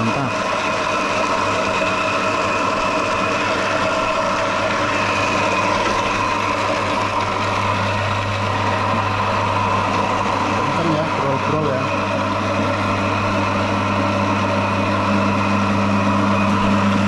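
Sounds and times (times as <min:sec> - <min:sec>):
dehulling machine humming and whining: 0:00.0 - 0:17.0.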